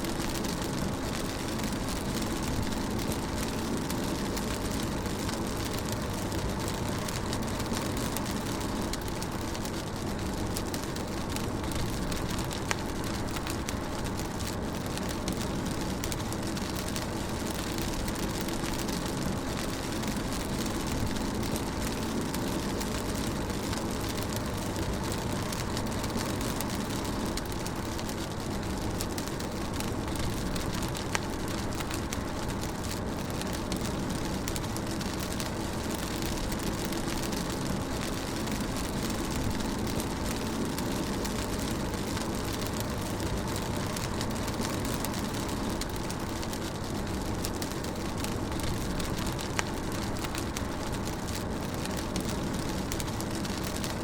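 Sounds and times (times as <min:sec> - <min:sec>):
rain and tyres hissing on wet road: 0:00.0 - 0:54.0
raindrops ticking: 0:00.0 - 0:54.0.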